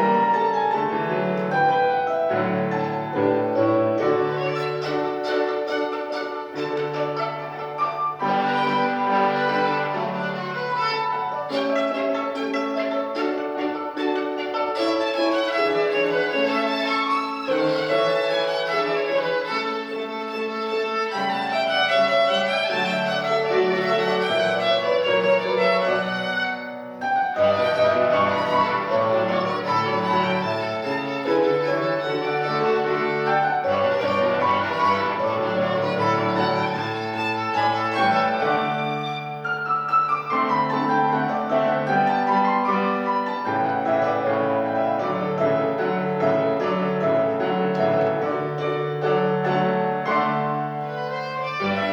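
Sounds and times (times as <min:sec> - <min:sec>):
piano accompaniment: 0:00.0 - 0:51.9
solo violin: 0:00.0 - 0:51.9.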